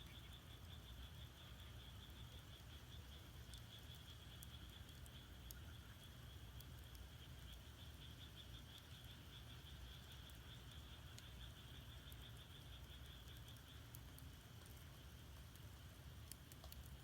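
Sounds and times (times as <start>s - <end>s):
frogs trilling: 0.0s - 17.0s
firewood crackling: 1.5s - 17.0s.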